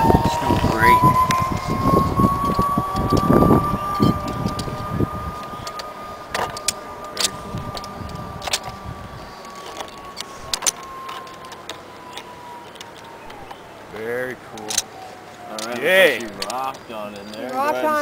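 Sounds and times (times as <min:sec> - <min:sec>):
zipline pulleys whining on cable: 0:00.0 - 0:18.0.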